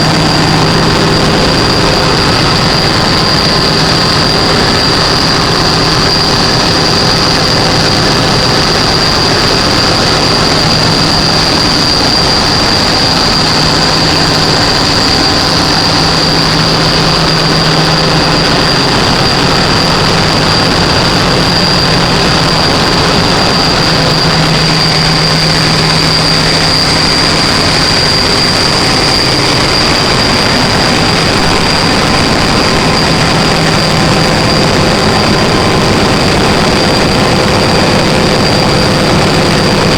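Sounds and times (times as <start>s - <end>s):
generator engine drone: 0.0s - 39.9s
high-pitched whine: 0.0s - 39.9s.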